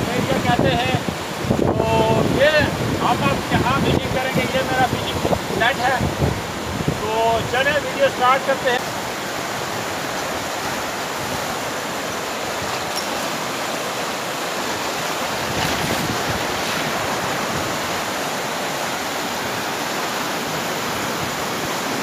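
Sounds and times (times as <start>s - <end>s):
river rushing over rapids: 0.0s - 22.0s.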